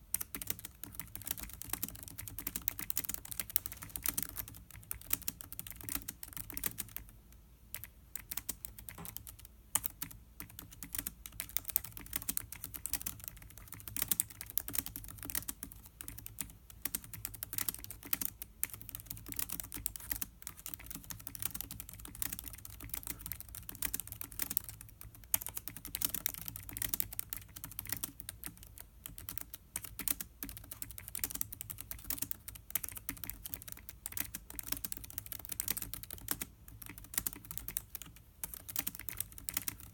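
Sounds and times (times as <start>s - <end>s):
laptop keyboard typing: 0.0s - 39.9s.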